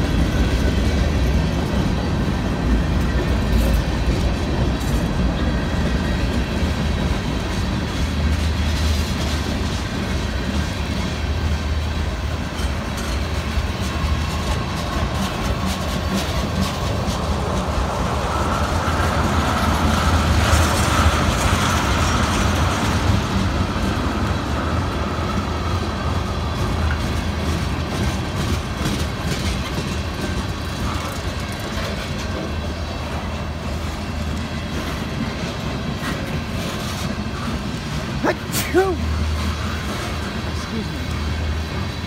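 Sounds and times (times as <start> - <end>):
steel wheels rumbling on rail: 0.0 - 42.0
wheels clicking over rail joints: 0.0 - 42.0.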